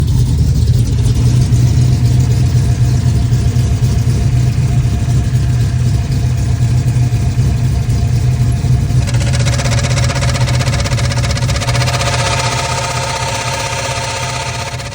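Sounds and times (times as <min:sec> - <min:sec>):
buzzing shudder with whine: 0:00.0 - 0:14.9
car engine idling: 0:00.0 - 0:14.9.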